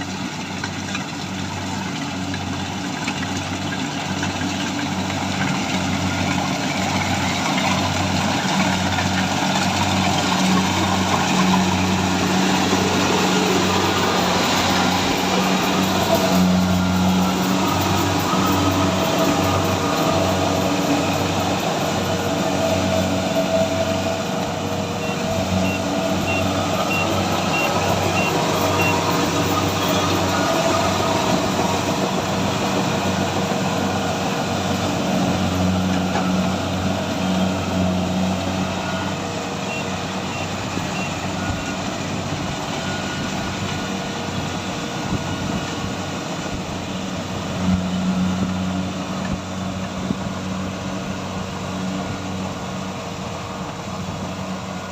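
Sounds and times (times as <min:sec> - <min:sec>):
combine harvester engine throbbing: 0:00.0 - 0:54.9.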